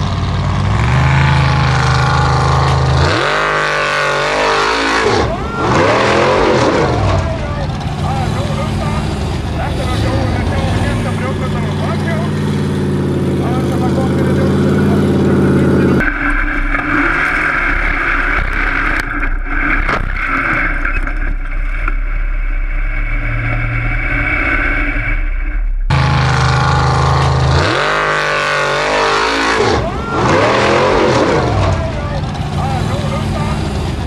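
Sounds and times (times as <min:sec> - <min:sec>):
buggy engine revving: 0:00.0 - 0:21.6, 0:25.9 - 0:34.0.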